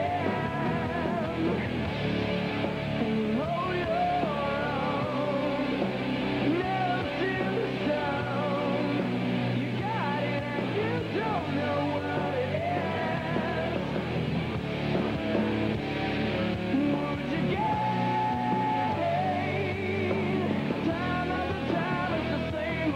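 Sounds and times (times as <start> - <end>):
person singing: 0.0 - 1.8, 3.0 - 14.0, 16.7 - 22.9
bass guitar: 0.0 - 22.9
drums: 0.0 - 22.9
electric guitars: 0.0 - 22.9.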